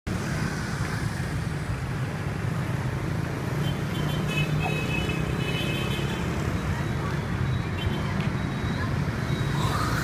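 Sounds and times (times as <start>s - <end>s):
cars passing: 0.1s - 10.0s
motorbikes passing: 0.1s - 10.0s.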